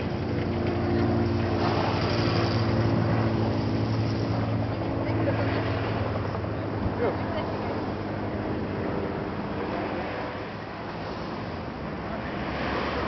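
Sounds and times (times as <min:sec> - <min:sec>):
broad rushing noise: 0:00.0 - 0:13.0.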